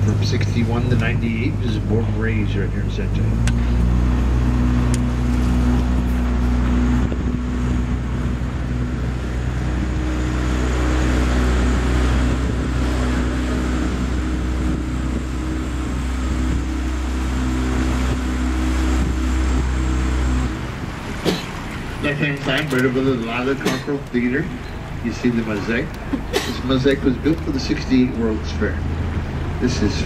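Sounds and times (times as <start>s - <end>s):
boat motor humming: 0.0s - 30.0s
wash of noise: 0.0s - 30.0s.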